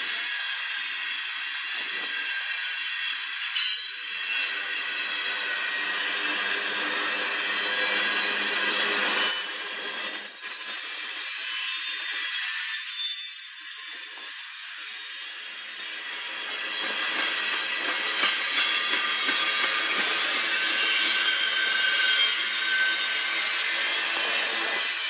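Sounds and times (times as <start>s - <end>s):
freight train wheels grinding: 0.0s - 25.0s
high wheel screeching: 0.1s - 25.0s.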